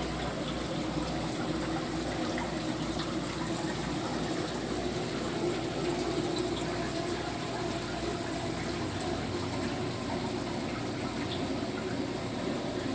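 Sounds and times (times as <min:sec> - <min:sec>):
faint pump hum: 0:00.0 - 0:12.9.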